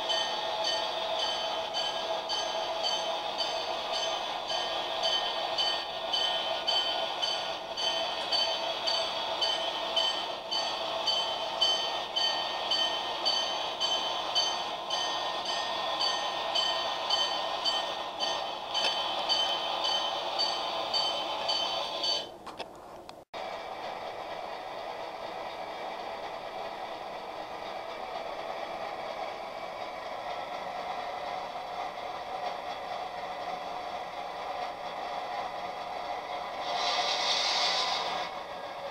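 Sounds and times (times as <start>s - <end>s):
model trains running on track: 0.0s - 22.6s, 23.4s - 38.9s.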